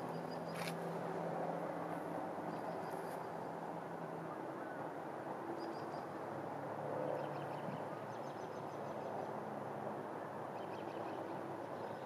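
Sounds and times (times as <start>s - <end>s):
distant road traffic: 0.0s - 12.0s
wind: 0.0s - 12.0s.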